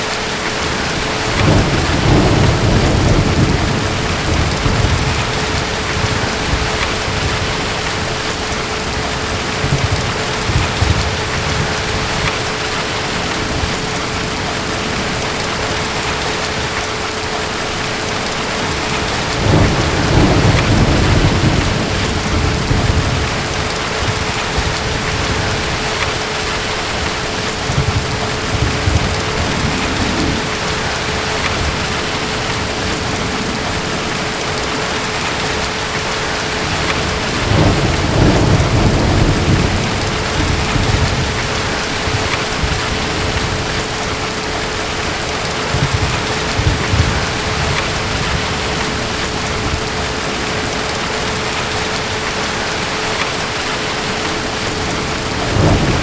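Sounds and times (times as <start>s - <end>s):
steady rain: 0.0s - 56.0s
distant thunder rumbling: 0.3s - 56.0s.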